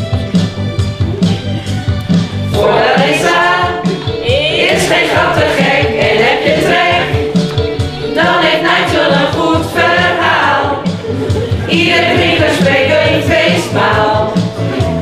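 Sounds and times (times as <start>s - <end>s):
group of voices singing: 2.5s - 15.0s.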